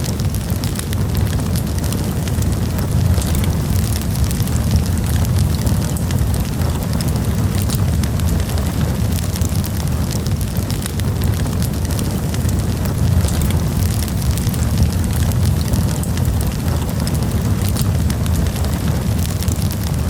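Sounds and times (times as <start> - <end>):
campfire crackling and popping: 0.0 - 20.0
fire low rumble: 0.0 - 20.0.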